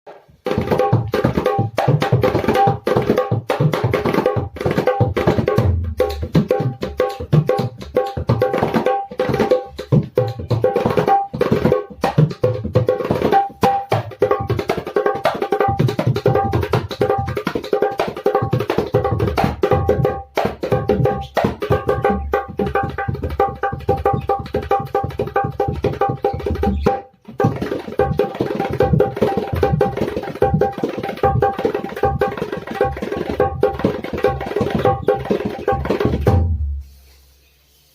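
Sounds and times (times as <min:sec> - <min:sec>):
dholak drumming fast rhythm: 0:00.1 - 0:36.8.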